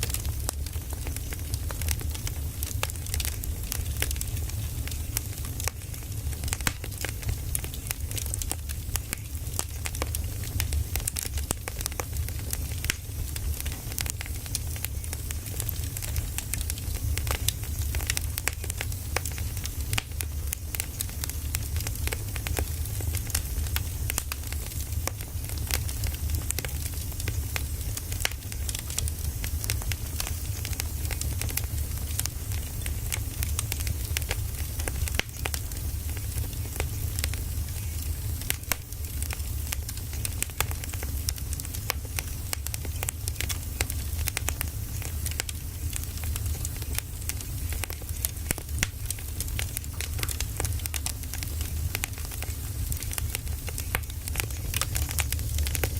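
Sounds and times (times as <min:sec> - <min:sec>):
fire low rumble: 0:00.0 - 0:55.9
firewood popping and crackling: 0:00.0 - 0:55.9.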